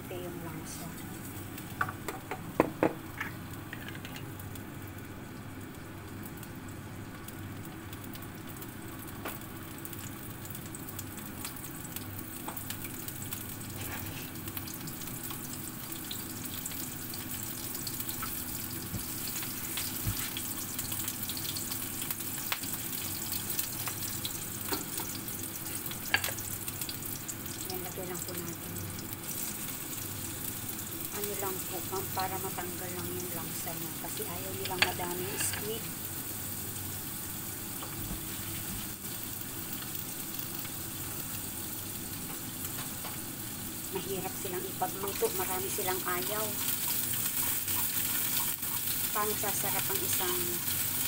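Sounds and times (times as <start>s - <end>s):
oil sizzling in a frying pan: 0.0s - 51.0s.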